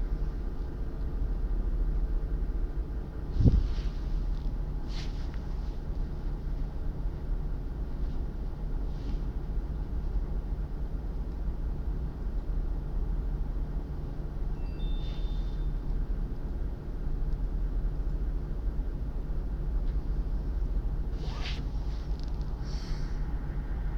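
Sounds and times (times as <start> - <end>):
low background rumble: 0.0 - 23.9.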